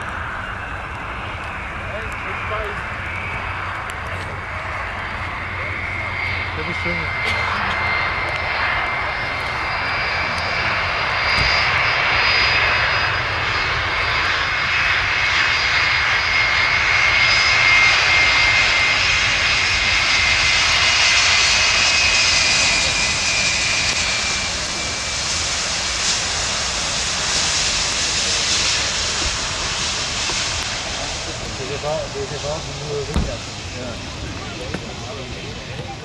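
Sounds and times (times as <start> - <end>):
jet engines roaring with whine: 0.0 - 36.0.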